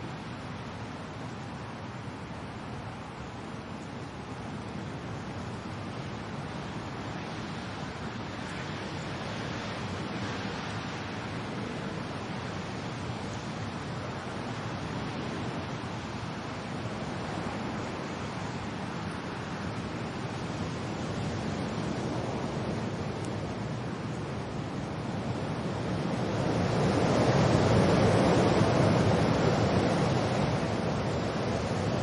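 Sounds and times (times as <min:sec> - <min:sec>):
rain: 0:00.0 - 0:32.0
wind: 0:00.0 - 0:32.0.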